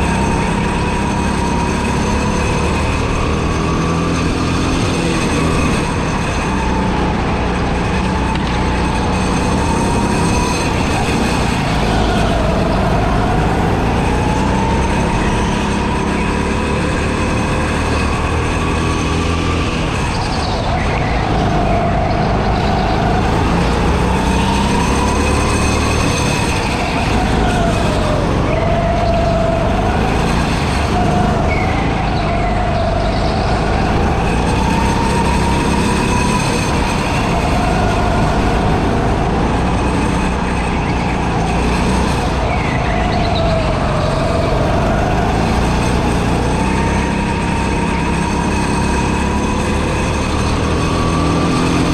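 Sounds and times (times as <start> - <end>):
go-kart motor revving: 0.0 - 51.9.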